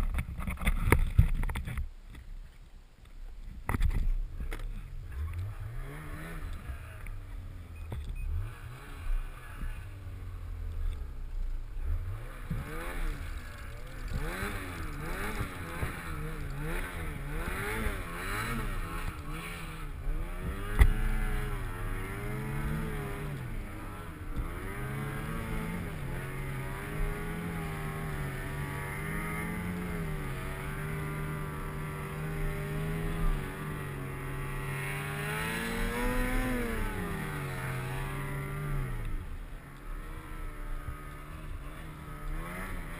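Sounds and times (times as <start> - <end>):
snowmobile engine revving: 5.0 - 42.9.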